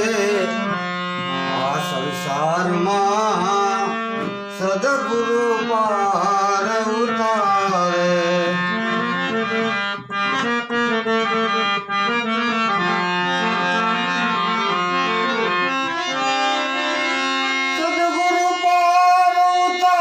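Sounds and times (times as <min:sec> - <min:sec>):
harmonium playing melody: 0:00.0 - 0:20.0.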